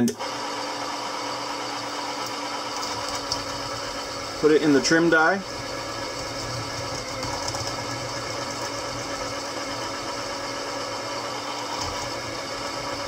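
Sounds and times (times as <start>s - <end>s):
electric case trimmer humming: 0.0s - 13.0s.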